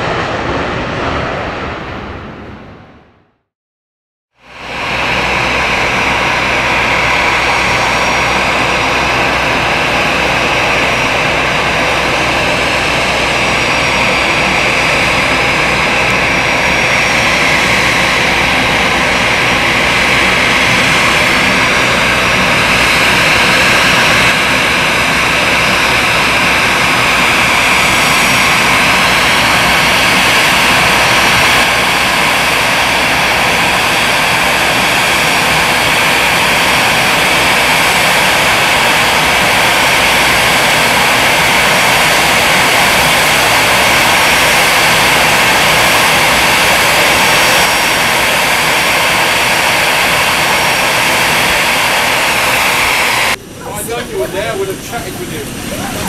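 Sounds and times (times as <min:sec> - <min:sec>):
jet engines whining: 0:00.0 - 0:03.5, 0:04.4 - 0:56.0.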